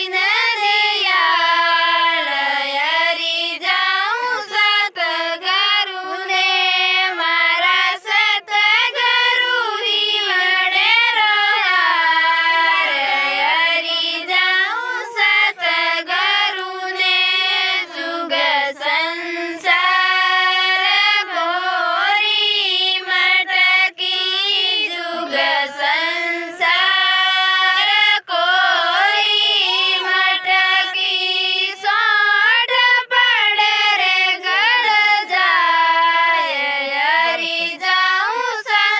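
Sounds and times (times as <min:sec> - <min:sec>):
woman singing in high voice: 0:00.0 - 0:38.9.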